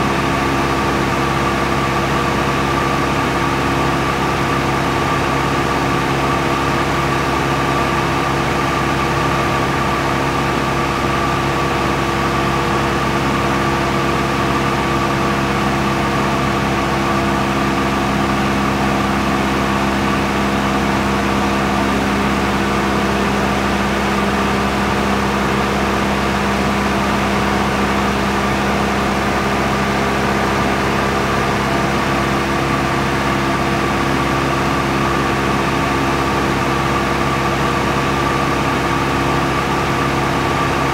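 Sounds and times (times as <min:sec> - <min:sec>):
aircraft engine droning in cabin: 0:00.0 - 0:40.9.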